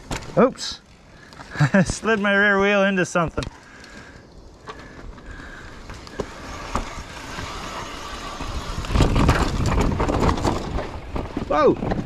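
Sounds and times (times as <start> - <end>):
bike rattling over bumps: 0.0 - 12.0
mountain bike tyres rumbling: 0.0 - 12.0.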